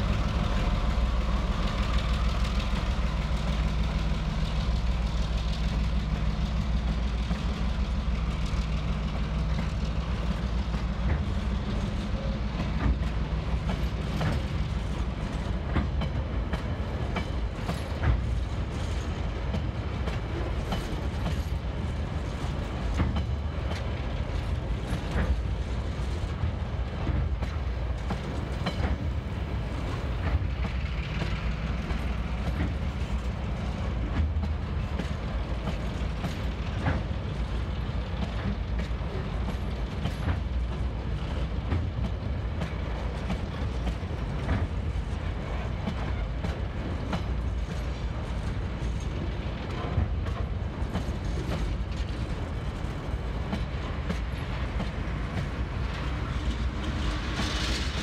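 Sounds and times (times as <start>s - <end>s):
diesel locomotive engine hum: 0.0s - 58.0s
train wheels clicking over rail joints: 0.0s - 58.0s.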